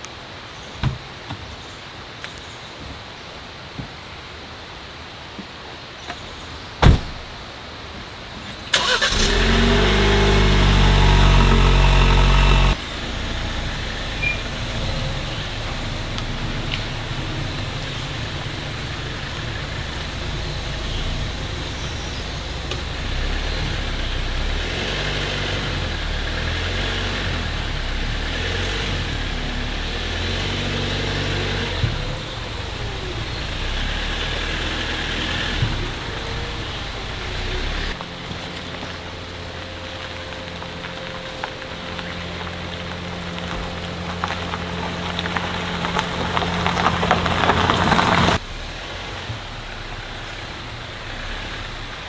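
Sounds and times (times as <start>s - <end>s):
car engine running: 8.7s - 52.0s.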